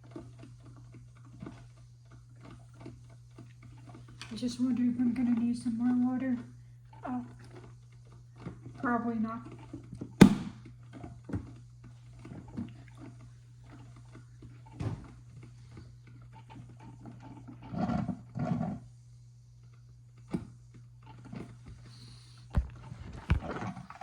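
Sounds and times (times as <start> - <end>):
coffee maker gurgling: 0.0 - 24.0.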